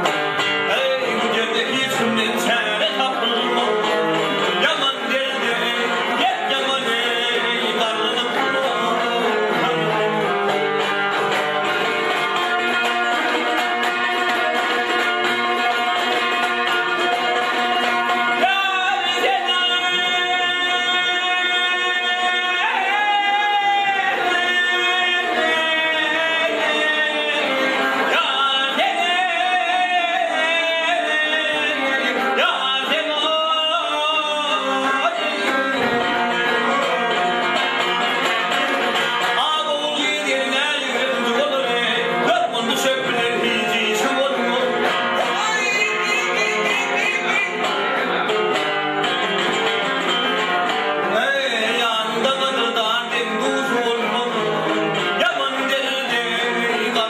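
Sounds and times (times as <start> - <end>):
man singing: 0.0 - 48.6, 50.4 - 57.0
lutes strummed: 0.0 - 57.0.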